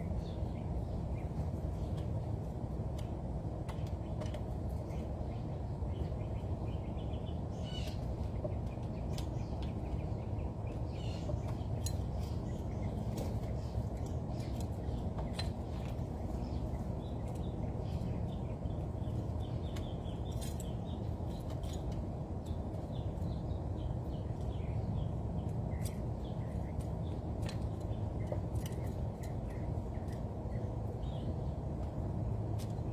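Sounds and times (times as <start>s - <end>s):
low background rumble: 0.0s - 32.9s
small birds chirping: 0.0s - 32.9s.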